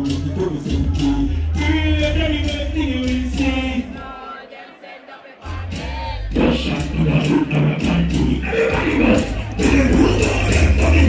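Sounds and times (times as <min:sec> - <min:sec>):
man chanting over bass beat: 0:00.0 - 0:04.3, 0:05.4 - 0:11.0.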